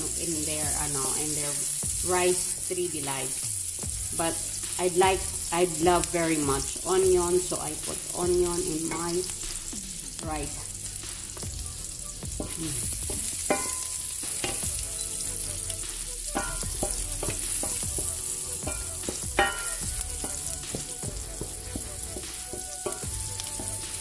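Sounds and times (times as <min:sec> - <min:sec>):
onion sizzling in a pan: 0:00.0 - 0:24.0.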